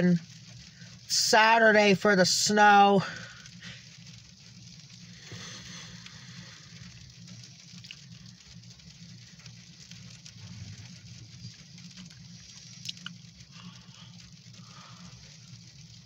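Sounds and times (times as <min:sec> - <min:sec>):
freezing rain pattering on car roof: 0:00.0 - 0:16.0
low steady hum: 0:00.0 - 0:16.0.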